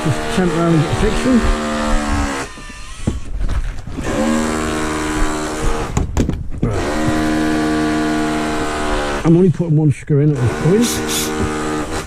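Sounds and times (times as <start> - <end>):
power drill whining: 0.0 - 9.4, 10.4 - 12.0.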